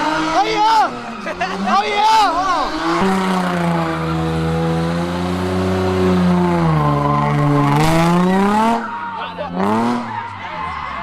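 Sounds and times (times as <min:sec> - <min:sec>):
car engine revving high: 0:00.0 - 0:10.3
tire noise: 0:00.0 - 0:11.0.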